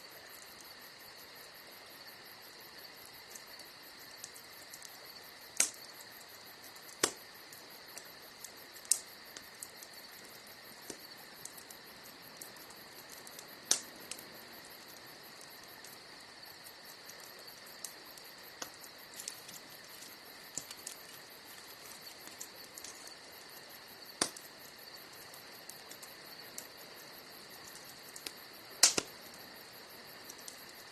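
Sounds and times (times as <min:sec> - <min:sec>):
campfire crackling: 0:00.0 - 0:30.9
crickets chirping: 0:00.0 - 0:30.9
fire popping: 0:02.7 - 0:30.9.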